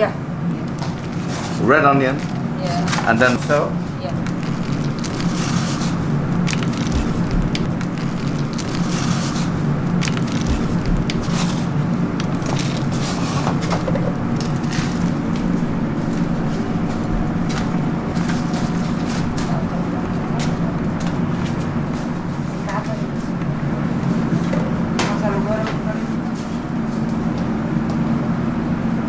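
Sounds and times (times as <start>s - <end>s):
kitchen equipment humming: 0.0s - 29.0s.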